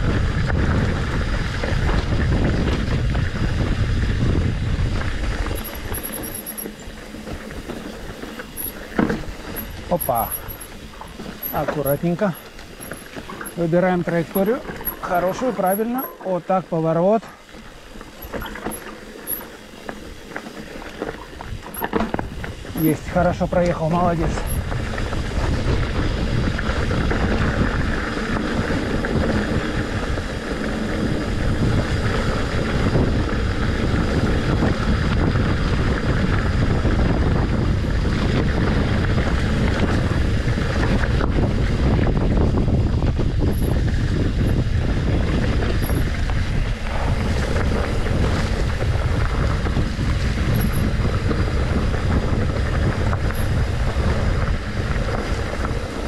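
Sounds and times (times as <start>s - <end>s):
bike frame rattling: 0.0s - 56.0s
tyres rumbling on dirt: 0.0s - 56.0s
wind rushing over microphone: 0.0s - 56.0s.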